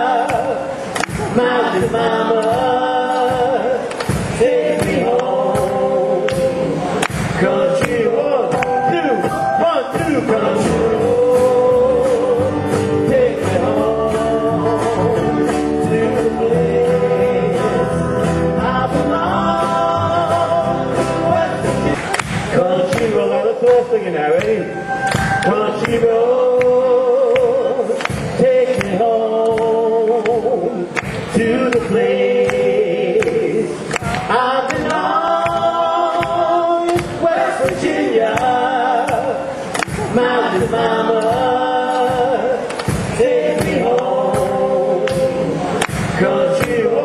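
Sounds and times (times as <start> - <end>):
person singing: 0.0 - 47.0.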